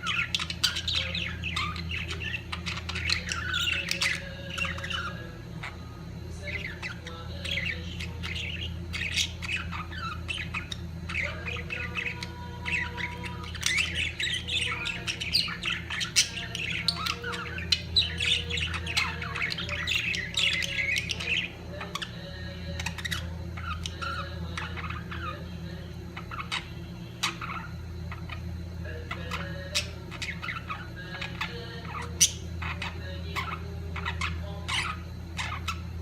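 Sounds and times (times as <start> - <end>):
budgerigars chattering and squawking: 0.0 - 36.0
steady low hum: 0.0 - 36.0.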